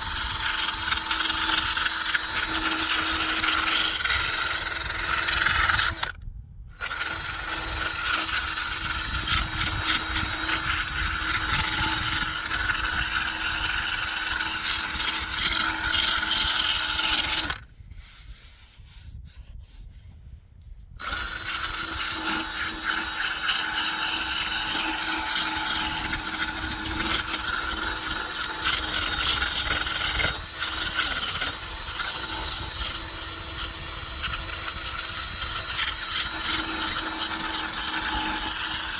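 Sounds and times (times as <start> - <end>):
electric power sander running: 0.0 - 6.2, 6.8 - 17.6, 21.0 - 38.9.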